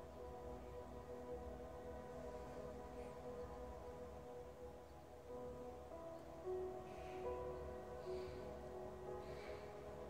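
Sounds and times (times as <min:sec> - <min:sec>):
background music of held notes: 0:00.0 - 0:10.0.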